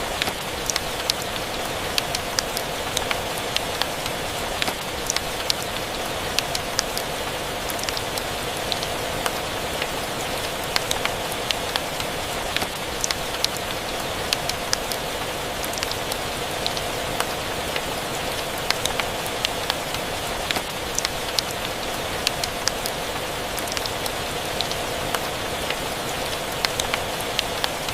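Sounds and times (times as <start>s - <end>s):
steady rain hiss: 0.0s - 27.9s.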